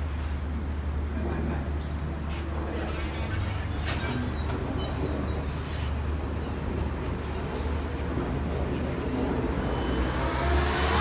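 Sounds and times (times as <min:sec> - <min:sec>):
diesel train moving slowly: 0:00.0 - 0:11.0.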